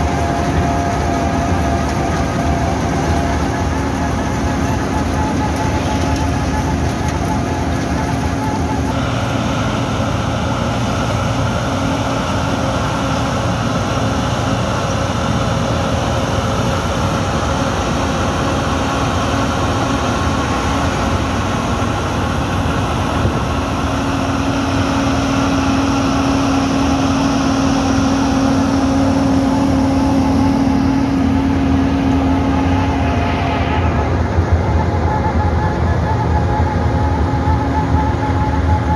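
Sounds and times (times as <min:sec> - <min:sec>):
cutting drum milling asphalt: 0:00.0 - 0:38.9
milling machine diesel engine: 0:00.0 - 0:38.9.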